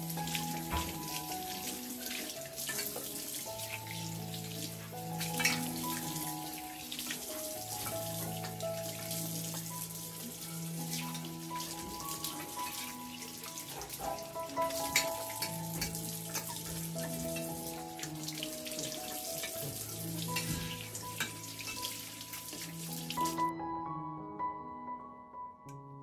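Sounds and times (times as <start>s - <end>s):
tap water running into basin: 0.0s - 23.5s
soft background music: 0.0s - 26.0s.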